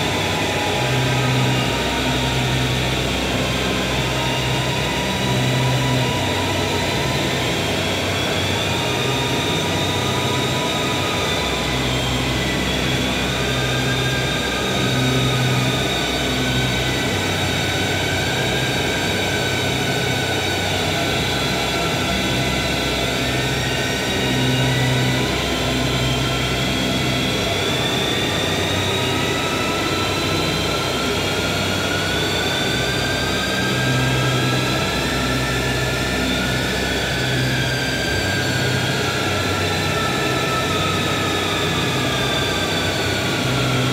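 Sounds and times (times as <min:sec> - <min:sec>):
dense wall of noise: 0:00.0 - 0:43.9.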